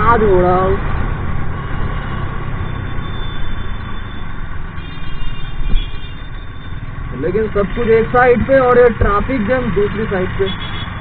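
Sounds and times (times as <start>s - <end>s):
surrounding traffic: 0.0s - 11.0s.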